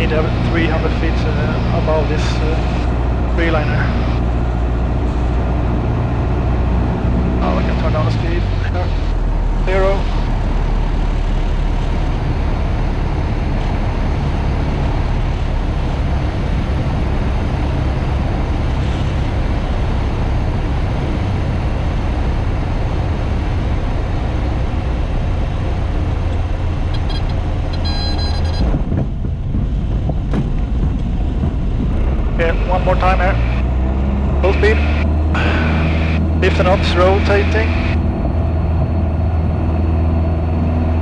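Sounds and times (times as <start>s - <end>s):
light aircraft engine droning: 0.0s - 27.9s, 28.6s - 41.0s.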